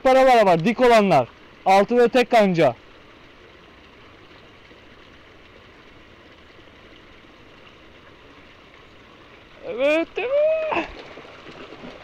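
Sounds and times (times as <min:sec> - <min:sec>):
water jet splashing into pond: 0:00.0 - 0:12.0.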